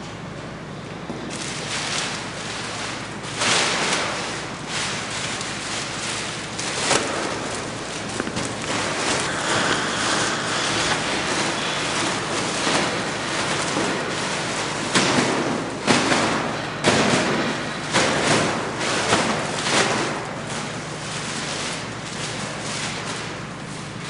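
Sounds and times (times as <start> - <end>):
plastic sack rustling: 1.1 - 24.0.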